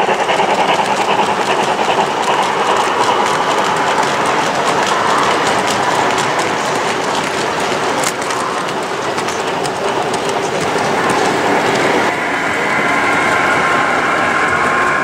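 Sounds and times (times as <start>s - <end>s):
model train wheels clicking: 0.0s - 14.8s
steady hum with held tones: 2.0s - 15.0s.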